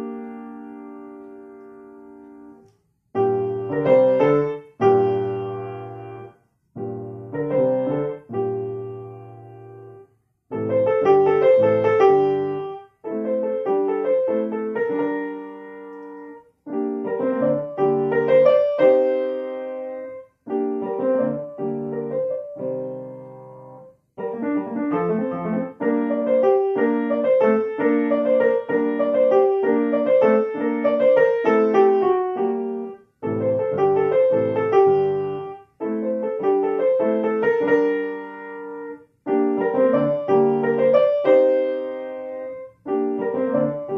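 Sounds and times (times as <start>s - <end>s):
solo piano melody: 0.0s - 43.9s.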